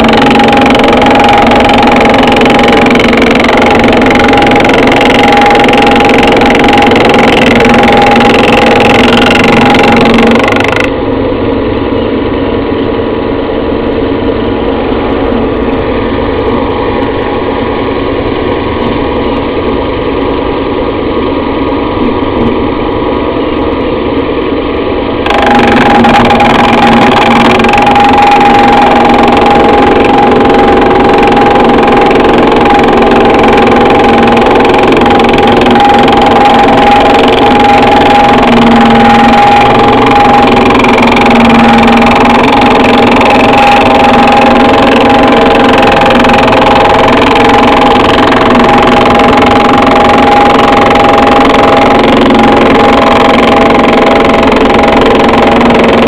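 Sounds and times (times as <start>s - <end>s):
thickness planer running: 0.0s - 56.0s.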